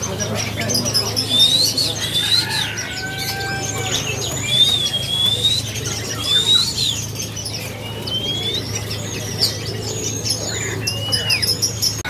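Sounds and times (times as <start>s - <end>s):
birds chirping: 0.0s - 12.0s
songbird whistled notes: 1.1s - 11.8s.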